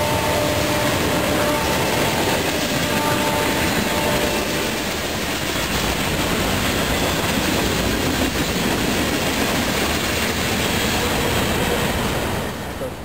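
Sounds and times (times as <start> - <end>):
steel wheels running on rails: 0.0 - 13.0.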